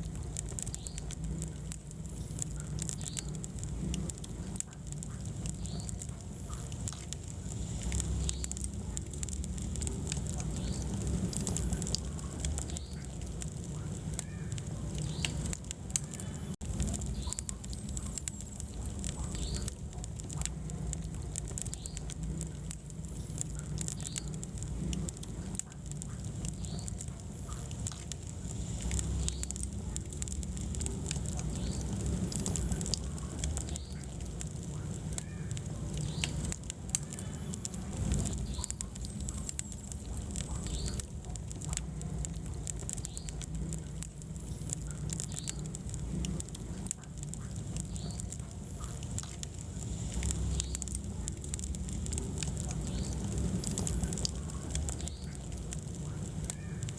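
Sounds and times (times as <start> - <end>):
fire crackling and popping: 0.0 - 56.9
low rumble of flames: 0.0 - 56.9.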